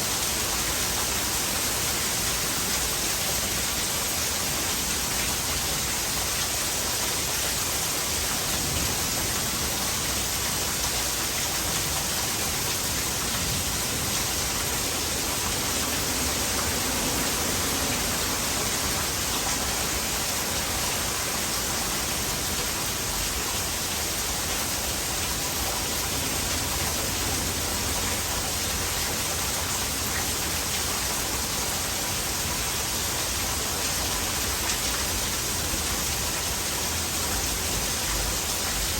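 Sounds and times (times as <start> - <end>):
heavy rain: 0.0 - 38.9
water running into a gutter: 0.0 - 38.9.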